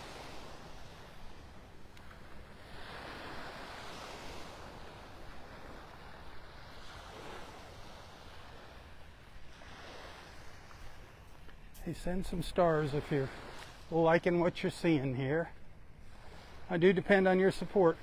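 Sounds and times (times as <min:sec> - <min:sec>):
gentle waves washing onto beach: 0:00.0 - 0:18.0.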